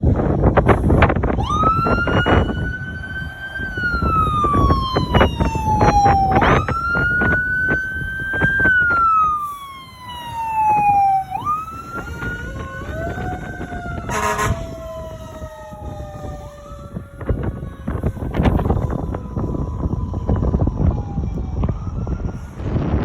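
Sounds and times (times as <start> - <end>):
fire engine siren wailing: 0.0 - 23.0
lower-pitched siren: 0.0 - 23.0
truck engine and road rumble: 0.0 - 23.0.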